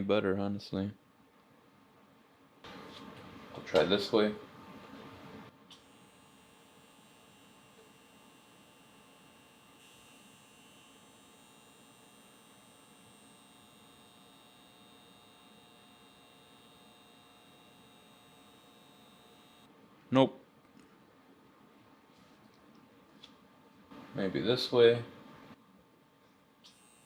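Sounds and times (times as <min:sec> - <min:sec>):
faint electrical hum and hiss: 0:00.0 - 0:27.0.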